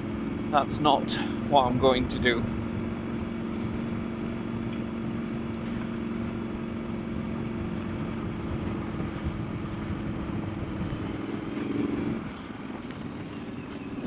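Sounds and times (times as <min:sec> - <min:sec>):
low rumble: 0:00.0 - 0:14.0
motorcycle engine running steadily: 0:00.0 - 0:14.0.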